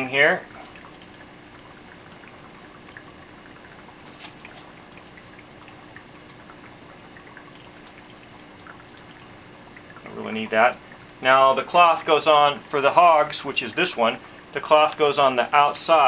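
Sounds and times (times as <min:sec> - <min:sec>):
aquarium water running: 0:00.0 - 0:16.0
low steady hum: 0:00.0 - 0:16.0.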